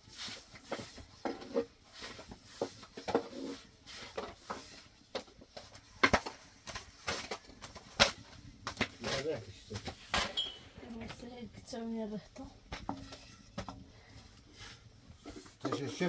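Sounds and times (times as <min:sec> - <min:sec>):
objects being handled clattering: 0:00.0 - 0:16.0.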